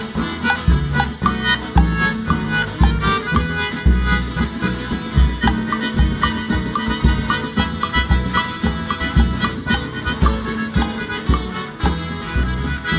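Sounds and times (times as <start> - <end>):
short melody notes: 0.0 - 12.9
steady bass beat: 0.0 - 12.9.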